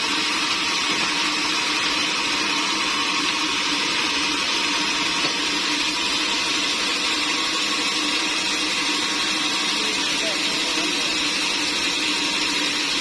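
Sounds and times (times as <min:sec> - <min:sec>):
sawmill saw hissing: 0:00.0 - 0:13.0.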